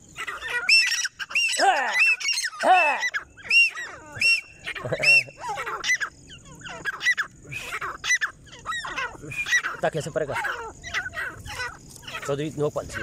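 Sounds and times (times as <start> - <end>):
birds calling high arched notes: 0.0 - 13.0.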